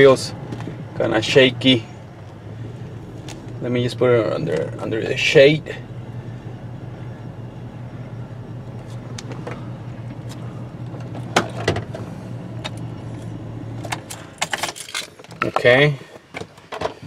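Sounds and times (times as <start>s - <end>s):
car engine idling with misfire: 0.0s - 17.0s.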